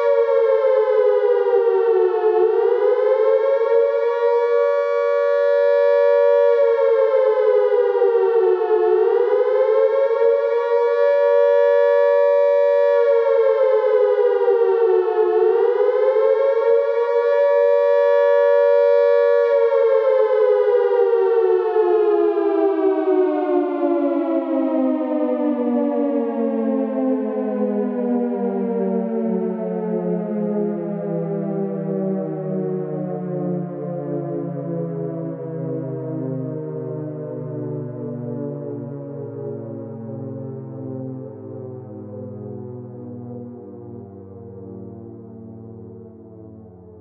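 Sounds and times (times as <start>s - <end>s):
wailing siren: 0.0s - 47.0s.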